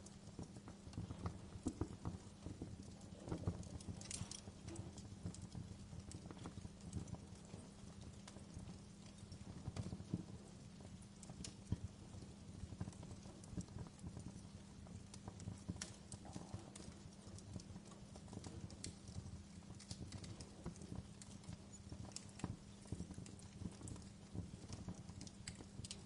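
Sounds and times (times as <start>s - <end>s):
fire crackling: 0.0s - 26.0s
steady low hum: 0.0s - 26.0s.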